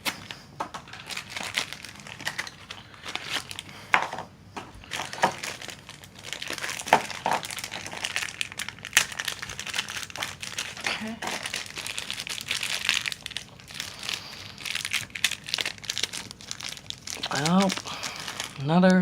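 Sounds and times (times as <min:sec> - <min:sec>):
packaging crinkling and tearing: 0:00.0 - 0:04.2, 0:04.8 - 0:19.0.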